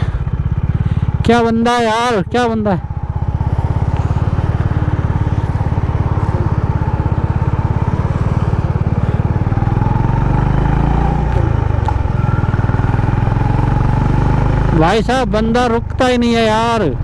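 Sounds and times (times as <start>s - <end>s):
motorcycle engine pulling away: 0.0s - 17.0s.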